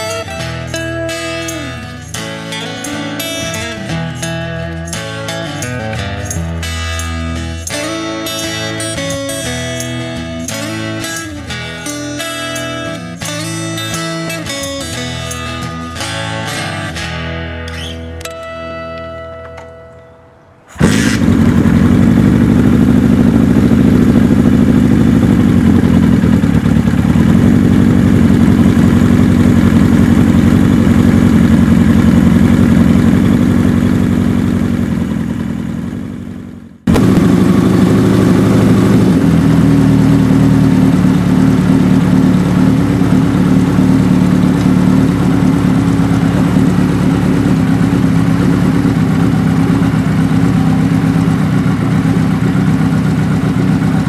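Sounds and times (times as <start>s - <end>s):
motorcycle engine running: 0.0s - 16.9s, 20.7s - 54.0s.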